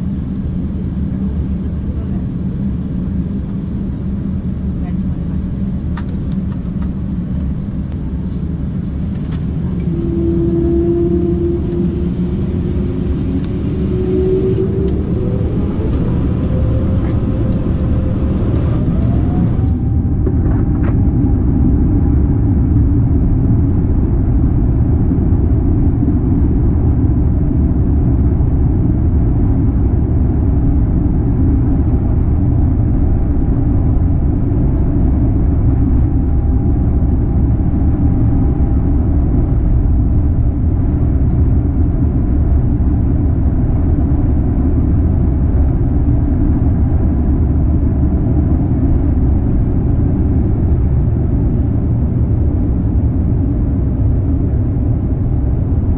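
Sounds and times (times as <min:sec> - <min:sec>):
faint steady whine: 0:00.0 - 0:55.9
low cabin engine rumble: 0:00.0 - 0:55.9.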